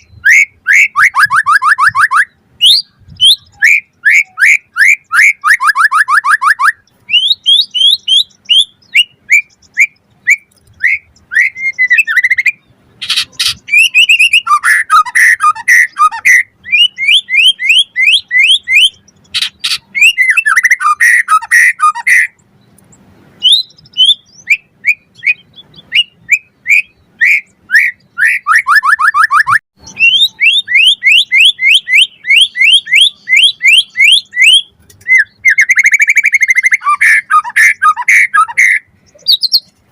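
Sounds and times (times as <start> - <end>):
bird singing whistled song: 0.0 - 22.8, 23.4 - 39.8.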